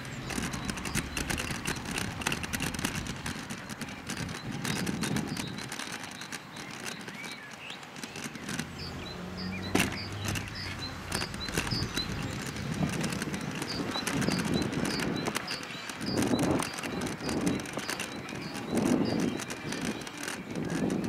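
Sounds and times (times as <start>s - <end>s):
bird chirping: 0.0s - 21.0s
scattered clicks: 0.0s - 21.0s
scooter wheels rumbling: 0.0s - 21.0s.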